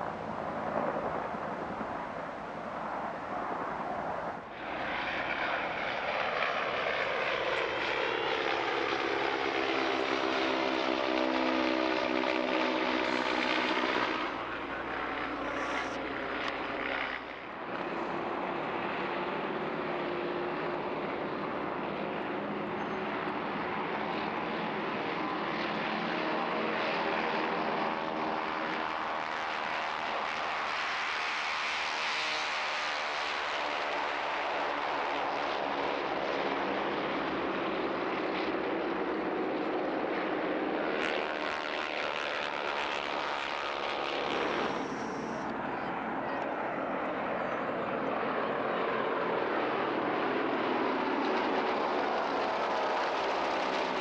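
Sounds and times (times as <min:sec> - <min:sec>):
propeller plane flying past: 0:00.0 - 0:54.0.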